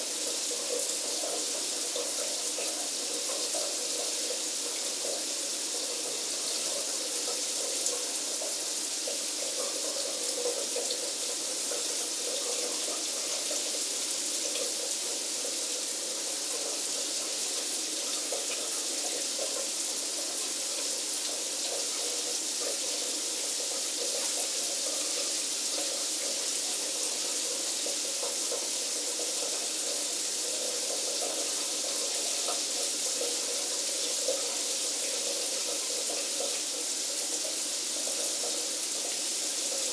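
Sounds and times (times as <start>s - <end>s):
shower spraying water: 0.0s - 39.9s.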